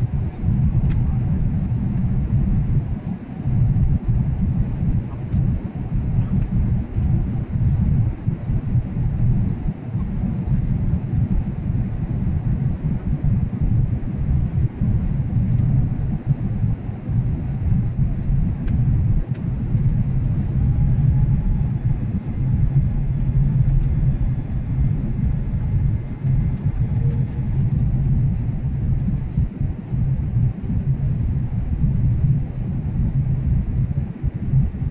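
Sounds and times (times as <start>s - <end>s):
airliner engine rumble in cabin: 0.0s - 34.9s.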